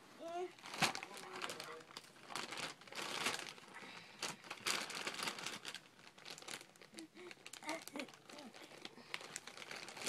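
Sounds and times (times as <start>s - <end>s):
plastic wrapper crinkling: 0.6s - 10.0s.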